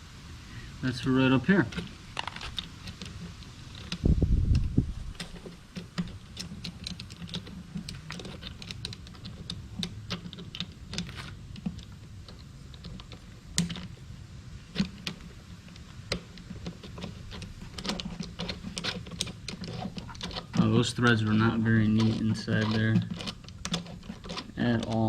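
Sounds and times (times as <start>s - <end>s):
plastic parts clicking: 1.7s - 14.0s, 14.7s - 25.0s.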